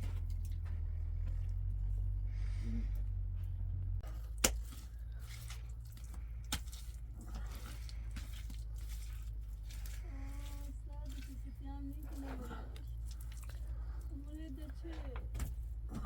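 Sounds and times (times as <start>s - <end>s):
low steady rumble: 0.0s - 16.0s
rustling and crunching: 0.0s - 16.0s.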